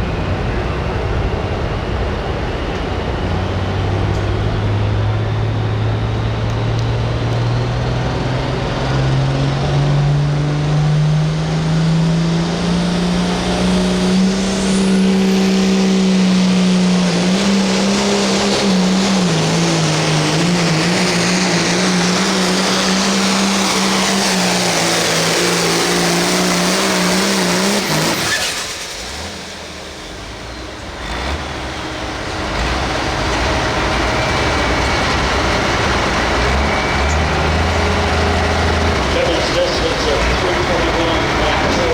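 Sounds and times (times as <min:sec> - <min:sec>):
tractor engine at full throttle: 0:00.0 - 0:41.9.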